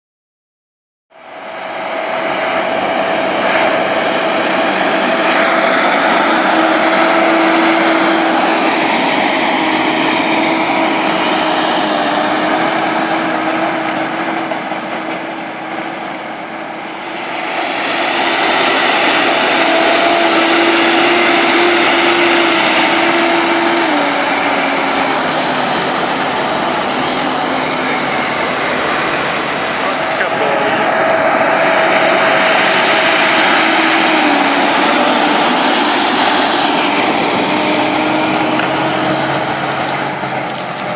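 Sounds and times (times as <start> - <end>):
steady whine: 1.1 - 40.9
tractor diesel engine working hard: 1.1 - 40.9.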